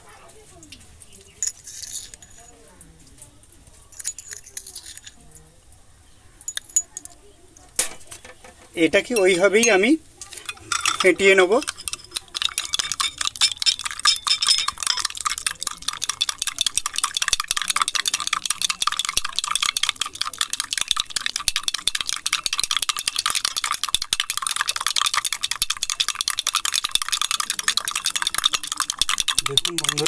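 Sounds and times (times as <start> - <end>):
teaspoon clinking and scraping in mug: 1.2 - 2.6, 3.9 - 5.4, 8.8 - 30.0.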